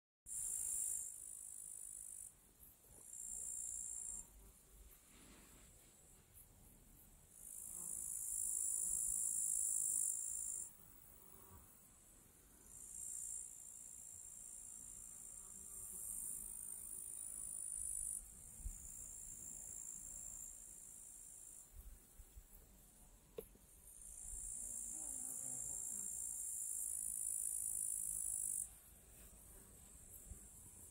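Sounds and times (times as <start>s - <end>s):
insects chirring: 0.3s - 5.0s, 6.0s - 11.9s, 12.7s - 30.9s.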